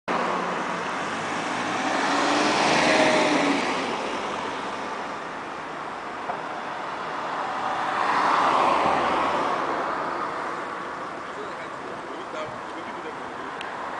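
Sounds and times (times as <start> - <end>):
road traffic: 0.0 - 13.9
car passing: 0.1 - 13.9.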